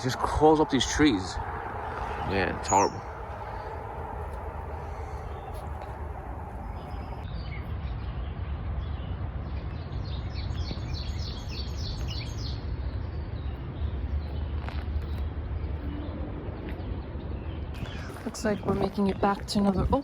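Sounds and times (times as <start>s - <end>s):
low outdoor rumble: 0.0s - 20.0s
songbird chirping: 0.0s - 20.0s.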